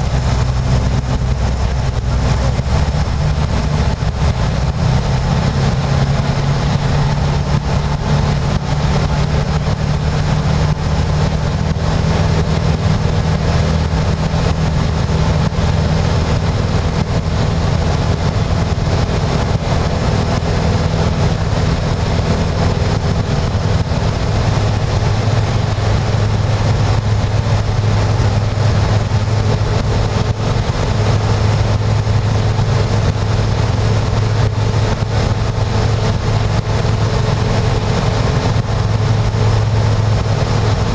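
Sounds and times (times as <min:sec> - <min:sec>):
microlight engine and propeller: 0:00.0 - 0:40.9.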